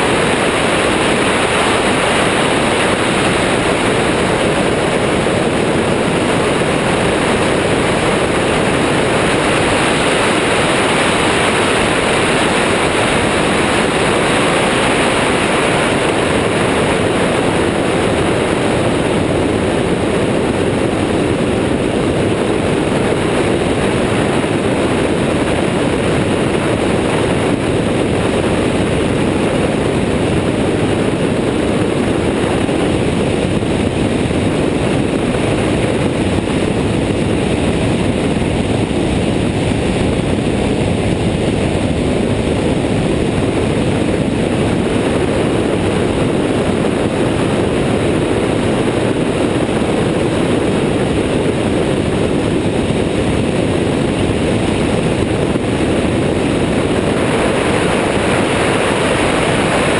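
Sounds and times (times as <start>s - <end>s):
engine and propeller drone: 0.0s - 59.9s
wind rushing on camera: 0.0s - 59.9s.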